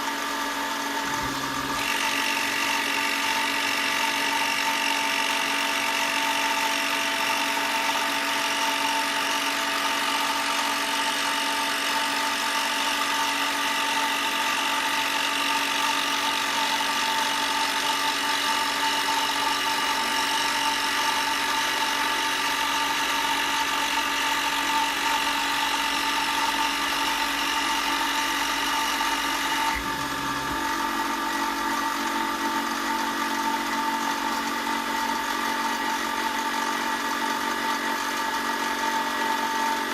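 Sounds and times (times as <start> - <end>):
power tool motor whining: 0.0 - 39.9.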